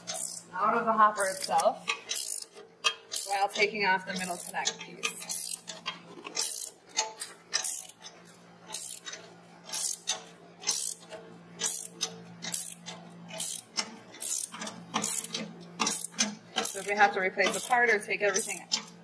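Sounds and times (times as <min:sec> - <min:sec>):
ratchet wrench pawl clicking: 0:00.0 - 0:00.5, 0:01.2 - 0:18.9
steady low hum: 0:00.0 - 0:19.0.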